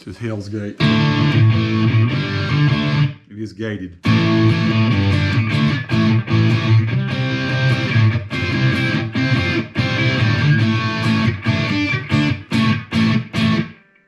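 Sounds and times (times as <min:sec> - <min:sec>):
gated electric guitar chord stabs: 0:00.8 - 0:03.2, 0:04.0 - 0:14.0.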